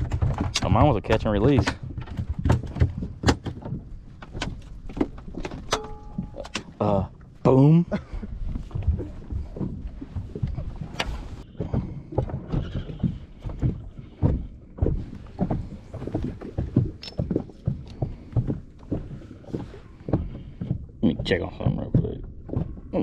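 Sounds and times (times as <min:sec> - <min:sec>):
knocks and thumps in boat: 0:00.0 - 0:23.0.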